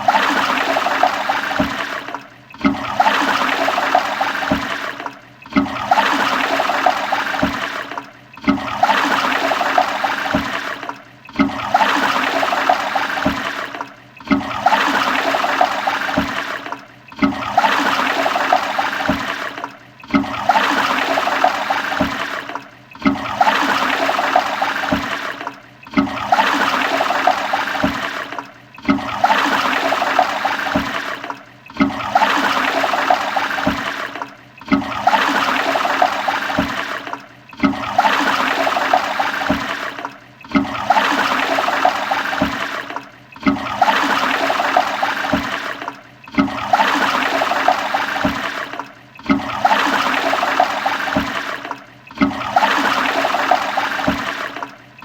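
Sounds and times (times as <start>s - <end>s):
toilet flushing: 0.0s - 55.0s.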